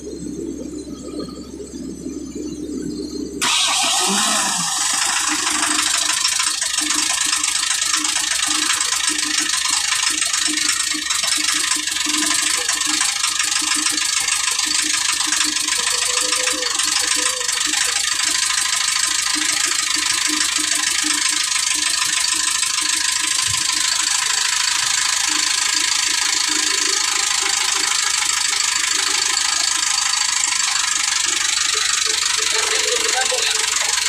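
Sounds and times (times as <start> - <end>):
diesel engine idling: 3.3 - 34.0.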